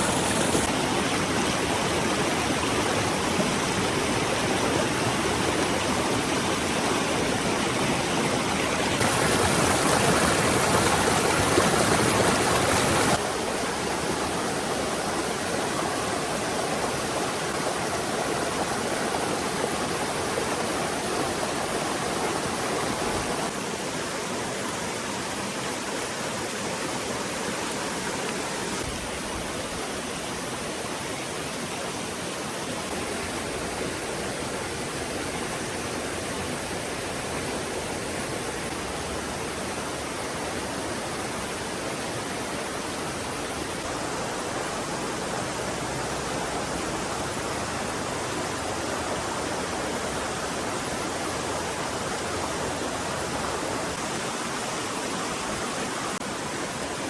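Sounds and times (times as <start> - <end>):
forest stream rushing: 0.0 - 57.0.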